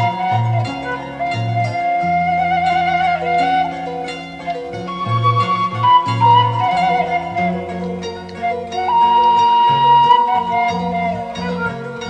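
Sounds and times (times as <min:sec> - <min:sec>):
flute-like melody: 0:00.0 - 0:12.0.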